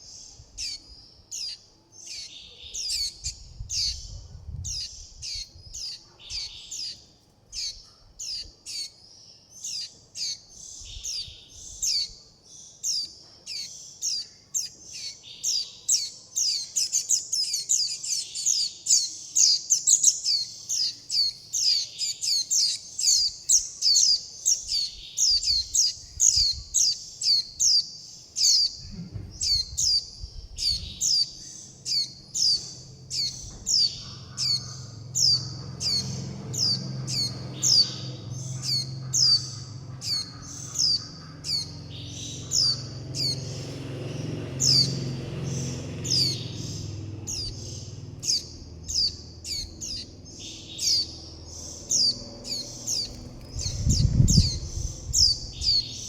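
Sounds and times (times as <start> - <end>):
chicks begging calls: 0.0 - 9.0, 9.6 - 56.0.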